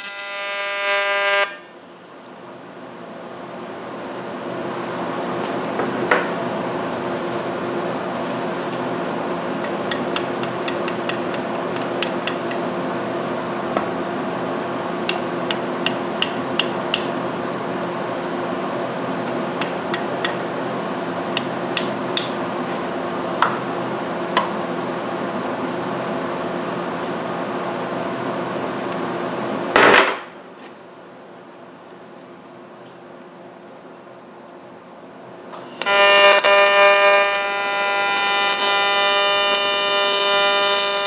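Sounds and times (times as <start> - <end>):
electrical hum: 0.0 - 41.0.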